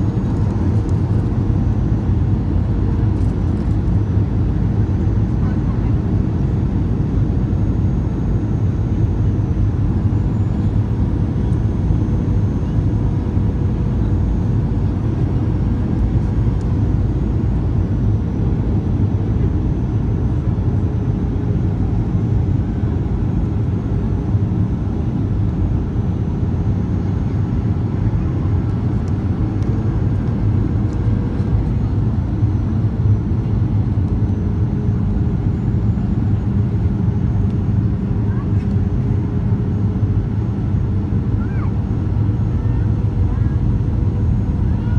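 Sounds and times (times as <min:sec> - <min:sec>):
airplane cabin drone: 0:00.0 - 0:44.9.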